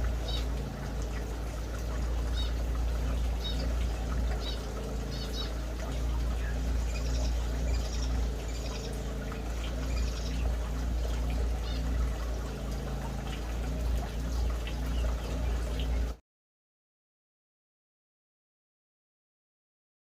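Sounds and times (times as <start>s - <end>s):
small birds chirping: 0.0s - 16.2s
steady low rumble: 0.0s - 16.2s.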